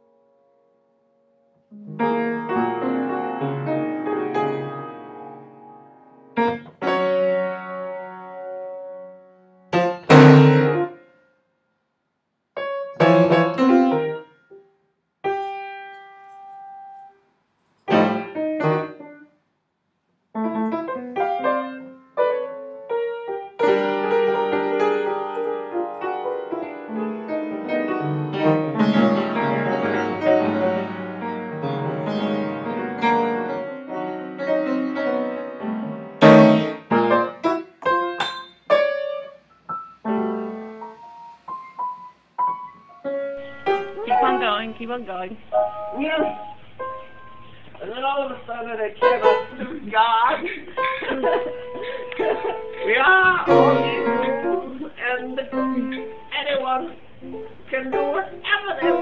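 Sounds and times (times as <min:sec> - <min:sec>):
piano playing: 0:00.0 - 0:11.1, 0:12.6 - 0:14.7, 0:15.3 - 0:17.1, 0:17.9 - 0:19.3, 0:20.4 - 0:59.0.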